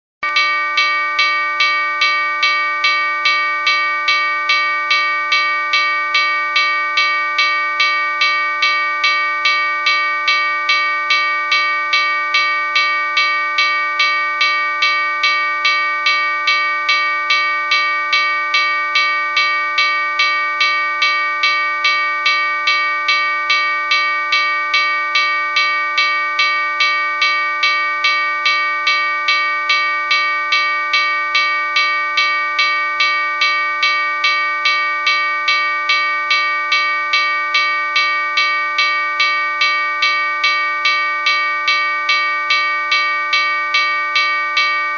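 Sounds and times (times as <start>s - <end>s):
railroad crossing bell ringing: 0.2s - 44.9s.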